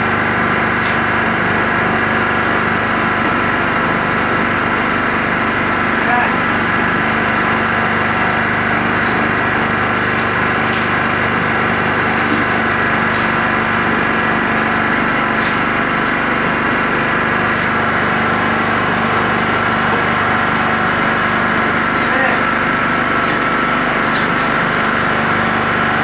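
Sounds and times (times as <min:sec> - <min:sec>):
concrete mixer drum turning sand: 0:00.0 - 0:26.0
generator engine running: 0:00.0 - 0:26.0.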